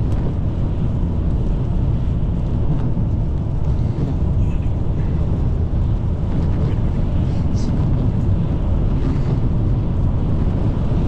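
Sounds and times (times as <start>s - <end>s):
car driving low rumble: 0.0s - 11.0s
road and wind noise: 0.0s - 11.0s.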